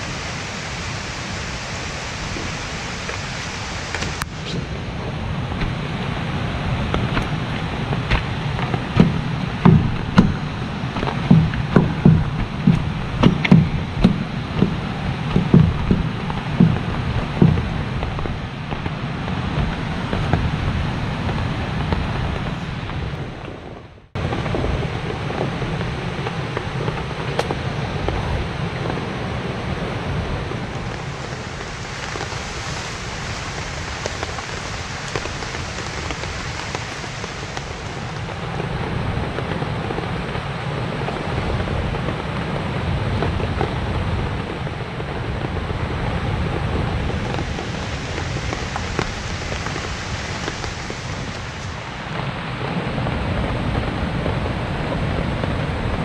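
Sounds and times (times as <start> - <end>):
dense rushing water: 0.0 - 56.0.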